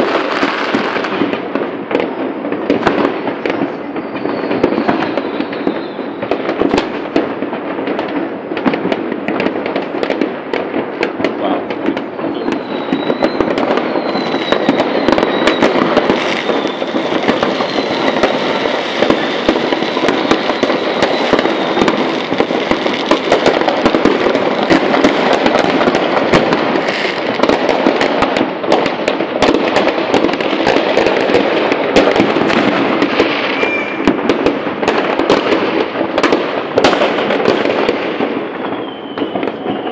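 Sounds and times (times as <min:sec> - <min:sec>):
fireworks crackling and banging: 0:00.0 - 0:39.9
fireworks whistling: 0:00.0 - 0:39.9.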